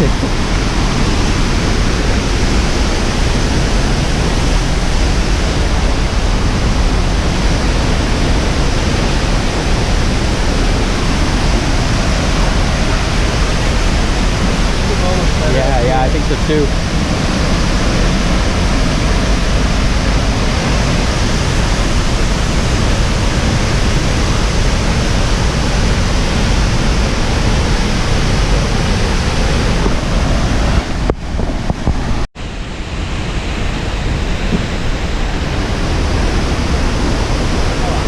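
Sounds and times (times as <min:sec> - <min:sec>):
waterfall roaring: 0:00.0 - 0:38.0.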